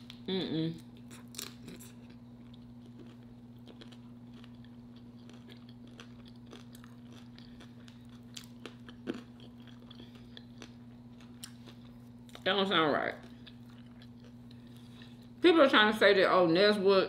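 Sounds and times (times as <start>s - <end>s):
person chewing and crunching food: 0.0s - 15.4s
steady low hum: 0.0s - 17.0s.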